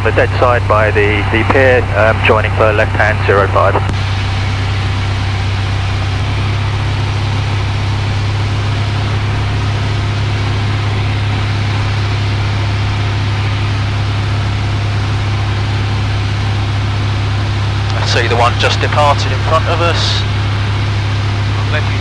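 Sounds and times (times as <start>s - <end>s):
airplane engine droning: 0.0s - 22.0s.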